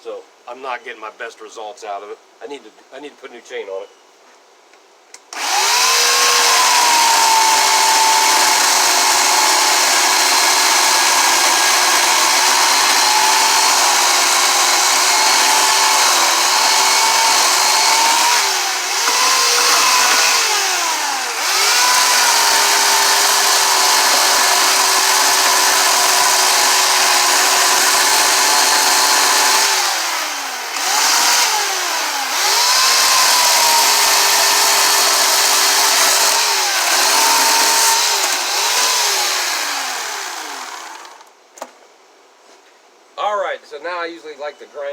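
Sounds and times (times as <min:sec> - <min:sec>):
chainsaw cutting wood: 0:05.3 - 0:41.3.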